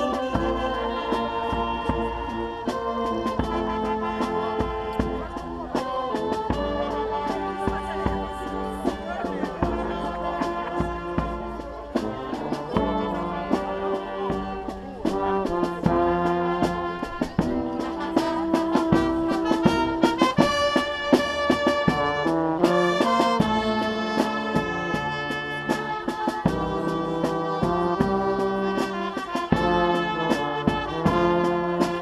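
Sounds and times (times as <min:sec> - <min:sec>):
bass drum beat: 0:00.0 - 0:32.0
brass band playing: 0:00.0 - 0:32.0.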